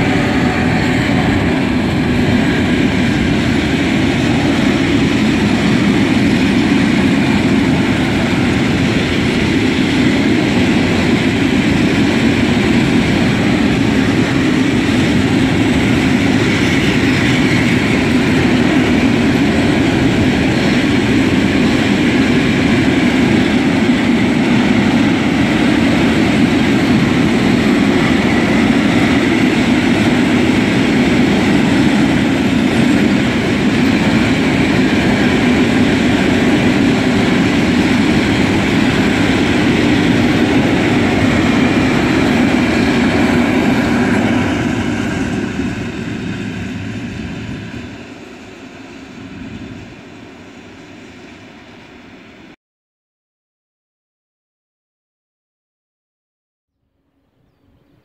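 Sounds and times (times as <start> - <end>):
freight train wheels rolling on rail: 0.0 - 52.6.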